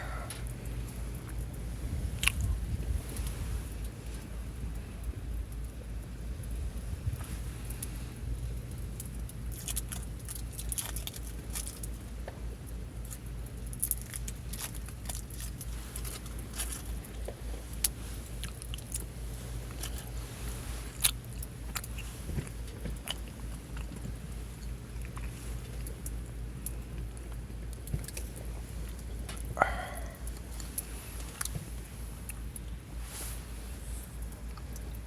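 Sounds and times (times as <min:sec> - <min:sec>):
campfire crackling: 0:00.0 - 0:35.0
steady low rumble: 0:00.0 - 0:35.0.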